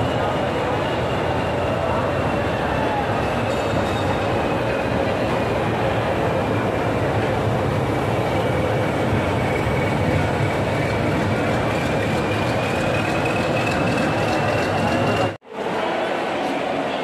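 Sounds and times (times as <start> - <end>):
train rolling rumble: 0.0 - 15.4.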